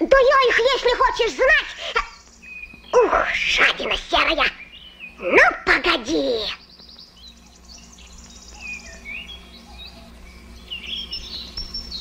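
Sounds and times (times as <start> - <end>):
birdsong chirps and trills: 0.0 - 12.0.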